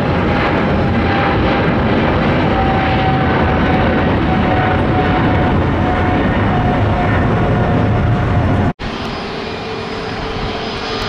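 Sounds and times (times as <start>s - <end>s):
airliner jet whine on approach: 0.0s - 11.0s
jet engines climbing: 0.0s - 11.0s.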